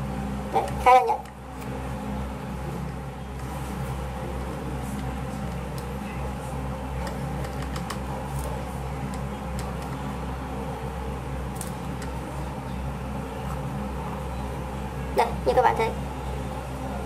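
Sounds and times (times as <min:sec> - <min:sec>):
room tone hum and hiss: 0:00.0 - 0:17.0.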